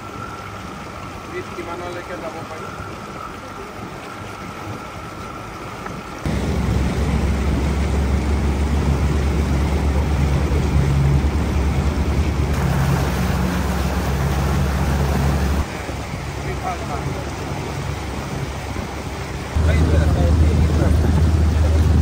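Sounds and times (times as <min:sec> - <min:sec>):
water noise: 0:00.0 - 0:22.0
outboard motor drone: 0:02.7 - 0:22.0.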